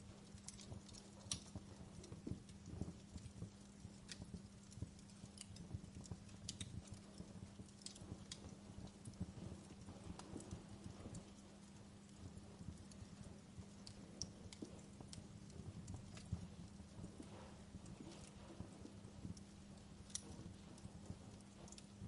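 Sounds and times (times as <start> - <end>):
low hum of burning fire: 0.0 - 22.0
wood fire crackling: 0.0 - 22.0.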